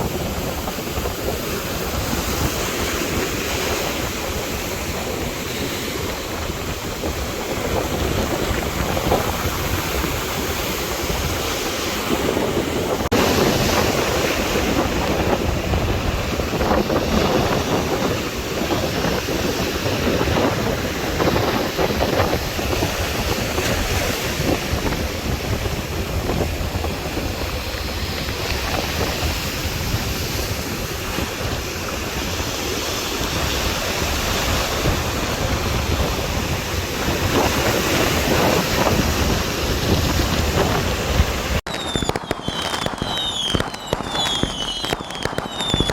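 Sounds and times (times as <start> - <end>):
sea waves washing ashore: 0.0 - 45.9
wind buffeting the microphone: 0.0 - 45.9.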